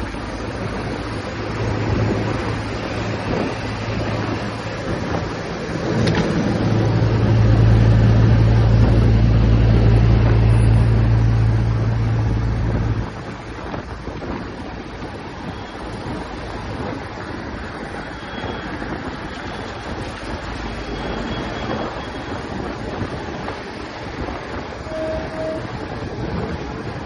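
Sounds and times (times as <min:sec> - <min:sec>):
wind noise on microphone: 0:00.0 - 0:27.0.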